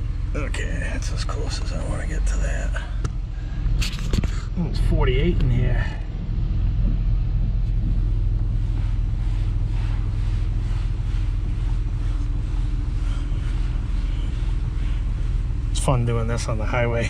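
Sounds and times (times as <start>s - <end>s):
car cabin engine and road rumble: 0.0s - 17.0s.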